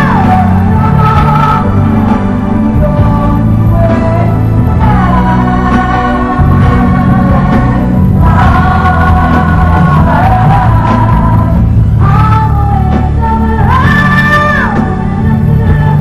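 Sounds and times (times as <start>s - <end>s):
full band accompaniment: 0.0s - 16.0s.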